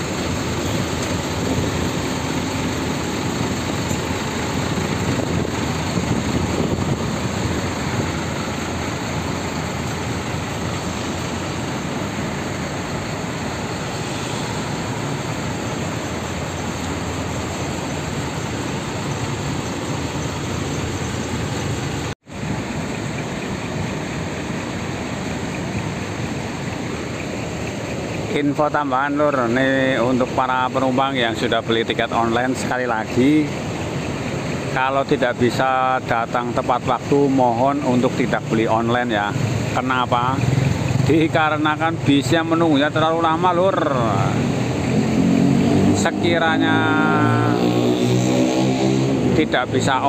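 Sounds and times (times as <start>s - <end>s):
bus diesel engines idling: 0.0s - 48.2s, 49.1s - 50.0s.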